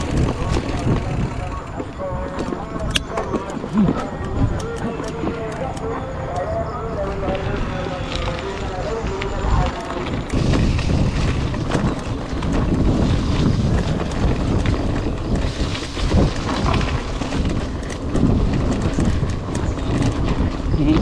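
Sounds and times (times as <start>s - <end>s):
wind buffeting microphone: 0.0s - 5.9s, 7.0s - 21.0s
bike rattles and clicks: 0.0s - 21.0s.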